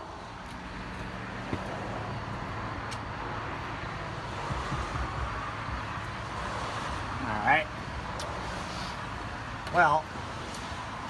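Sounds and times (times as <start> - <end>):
passing vehicles rumble: 0.0 - 11.0.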